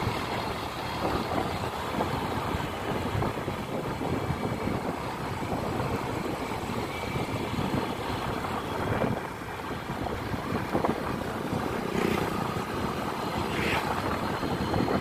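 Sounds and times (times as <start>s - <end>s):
scooter engine running: 0.0s - 15.0s
wind rushing over microphone: 0.0s - 15.0s.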